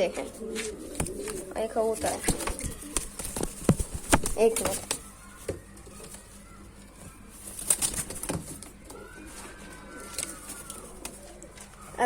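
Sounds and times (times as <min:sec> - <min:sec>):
pigeons cooing: 0:00.0 - 0:12.0
wing flapping: 0:00.6 - 0:06.6, 0:07.3 - 0:12.0.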